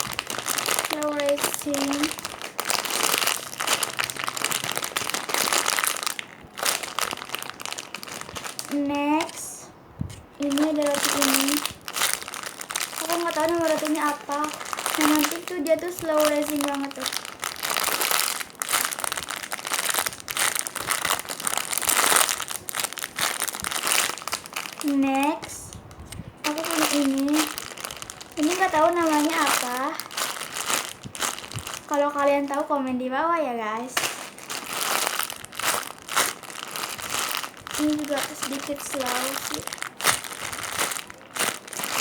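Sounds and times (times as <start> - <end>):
squishy toy crinkling: 0.0 - 9.6, 10.2 - 33.0, 33.8 - 42.0.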